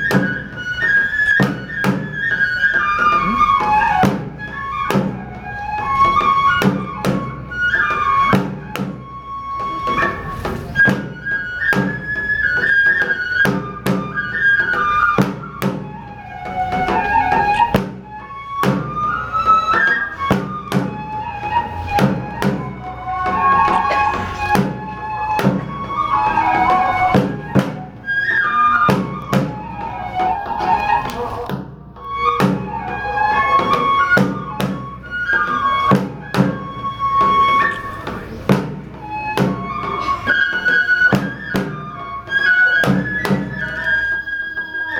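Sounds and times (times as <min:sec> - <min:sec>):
bamboo flute melody: 0:00.0 - 0:44.9.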